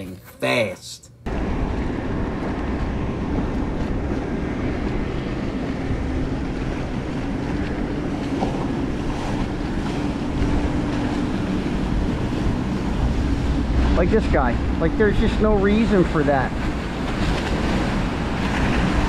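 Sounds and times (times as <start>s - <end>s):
powerboat engine drone: 1.2s - 19.0s
water sloshing along hull: 1.2s - 19.0s
wind buffeting microphone: 1.3s - 19.0s.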